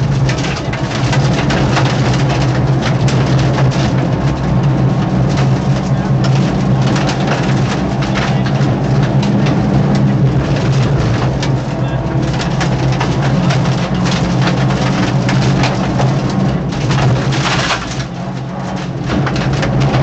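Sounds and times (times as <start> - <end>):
car clattering knocks: 0.0 - 20.0
car engine running under load: 0.0 - 20.0.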